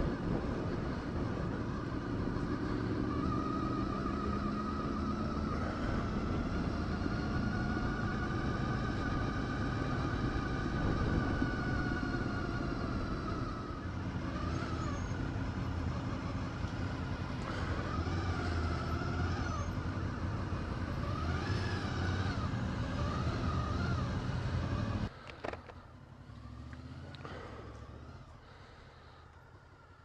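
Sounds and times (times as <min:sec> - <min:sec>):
low wind rumble: 0:00.0 - 0:26.6
motorcycle engine running: 0:00.0 - 0:30.0.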